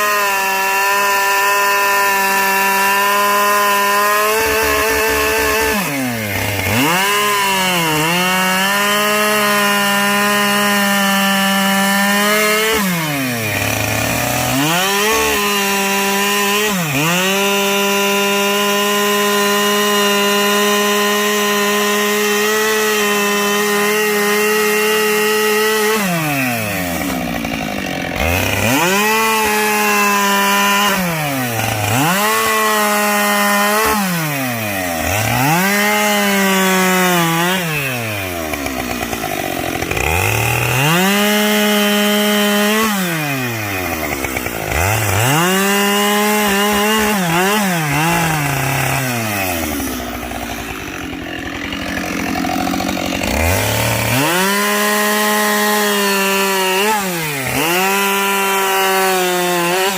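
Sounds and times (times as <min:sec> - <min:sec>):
chainsaw revving while cutting logs: 0:00.0 - 0:59.9.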